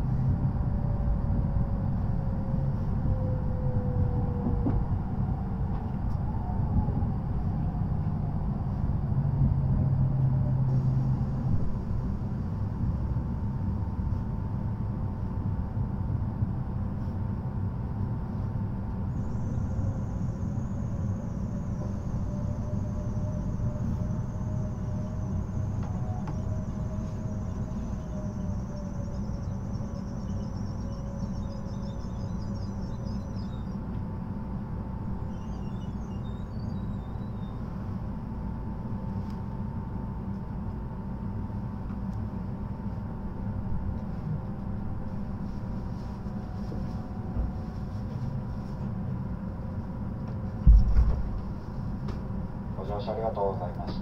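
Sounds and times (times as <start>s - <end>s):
train cabin hum: 0.0s - 54.0s
train low rumble: 0.0s - 54.0s.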